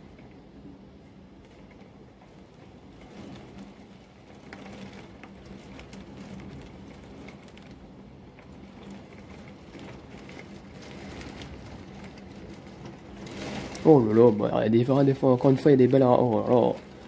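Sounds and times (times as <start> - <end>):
heavy rain: 1.4 - 17.0
raindrops ticking on glass: 1.4 - 17.0.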